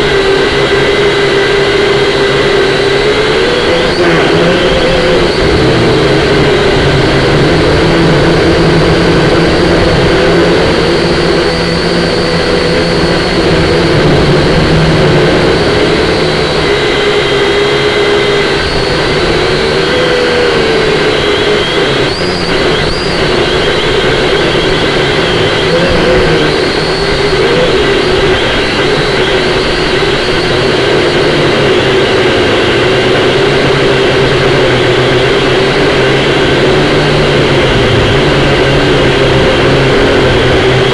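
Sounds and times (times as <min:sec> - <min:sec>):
heavy wind noise: 0:00.0 - 0:40.9
quadcopter propellers whining: 0:00.0 - 0:40.9.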